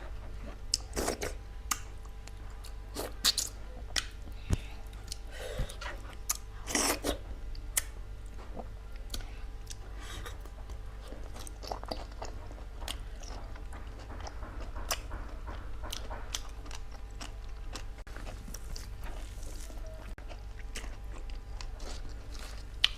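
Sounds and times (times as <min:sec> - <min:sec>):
steady low hum: 0:00.0 - 0:22.9
person chewing crunchy food: 0:00.2 - 0:22.9.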